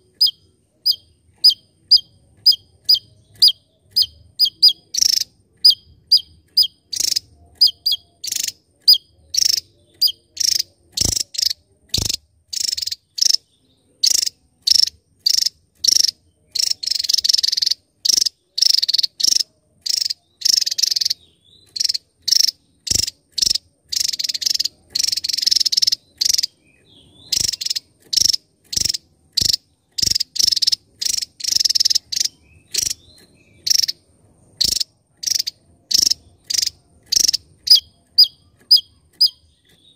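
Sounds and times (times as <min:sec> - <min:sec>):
bird singing high buzzy bursts: 0:00.0 - 0:39.9.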